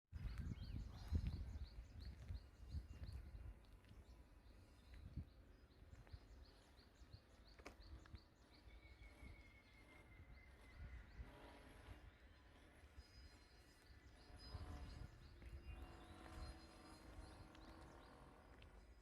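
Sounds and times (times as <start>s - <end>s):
small birds chirping: 0.1s - 19.0s
faint low rumble: 0.2s - 19.0s.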